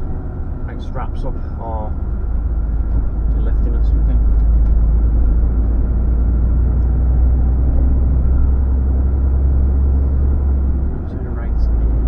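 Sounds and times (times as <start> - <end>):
lorry engine rumble: 0.0 - 12.0
road noise: 0.0 - 12.0.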